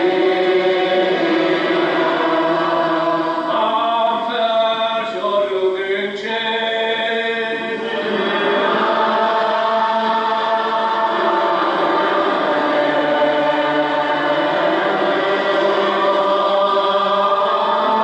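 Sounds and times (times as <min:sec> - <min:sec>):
congregation singing a psalm: 0:00.0 - 0:18.0.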